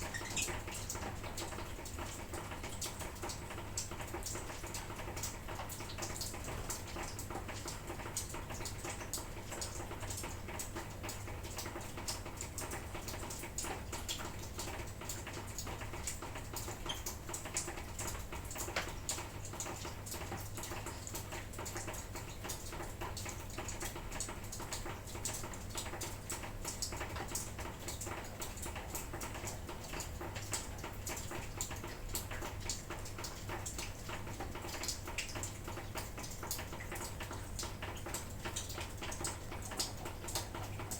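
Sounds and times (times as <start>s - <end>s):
light drizzle pattering: 0.0s - 40.9s.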